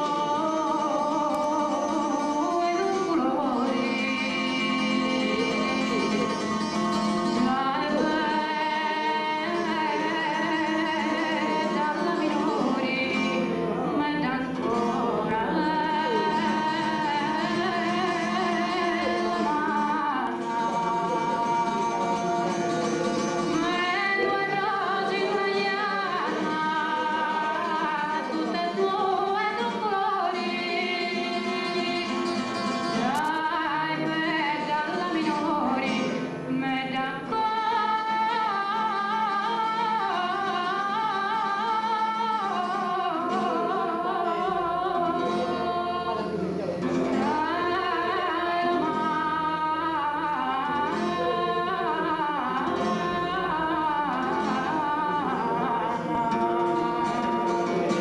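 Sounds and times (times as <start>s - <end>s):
acoustic guitar: 0.0s - 58.0s
woman singing: 0.0s - 58.0s.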